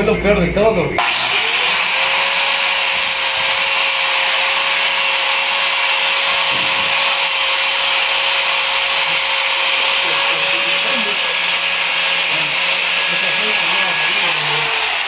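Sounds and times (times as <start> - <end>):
angle grinder grinding metal: 1.0 - 15.0.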